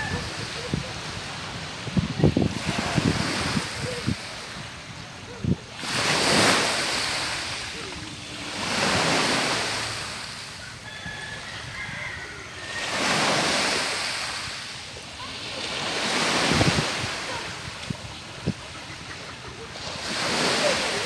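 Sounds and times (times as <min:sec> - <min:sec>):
waves washing up pebble beach: 0:00.0 - 0:04.8, 0:05.4 - 0:10.6, 0:12.7 - 0:18.7, 0:19.7 - 0:21.0.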